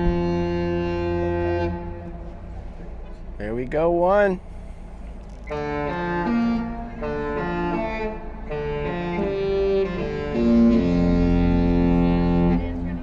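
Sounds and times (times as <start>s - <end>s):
ship musical horn playing tune: 0.0s - 3.3s, 4.4s - 13.0s.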